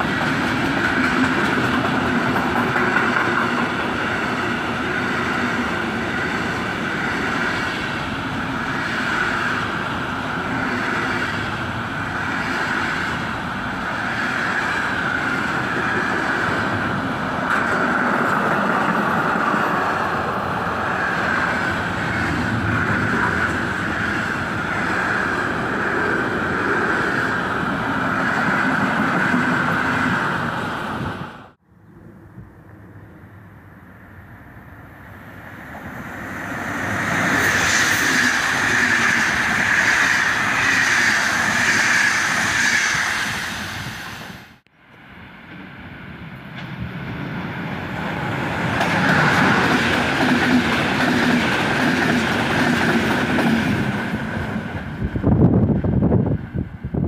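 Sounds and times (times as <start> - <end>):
train rumbling: 0.0 - 57.0
train wheel and rail noise: 0.0 - 57.0.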